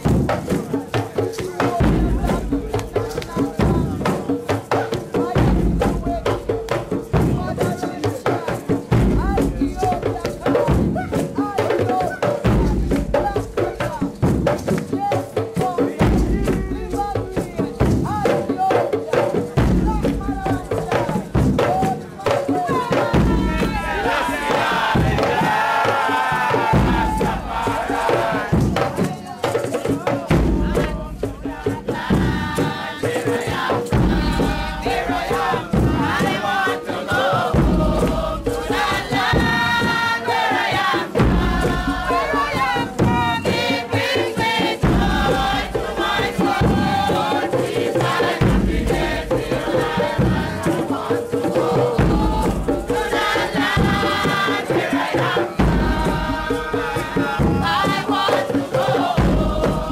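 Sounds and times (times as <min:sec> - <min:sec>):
deep drum beat: 0:00.0 - 0:07.9, 0:08.7 - 0:18.8, 0:19.5 - 0:59.9
marchers chanting in unison: 0:00.0 - 0:59.9.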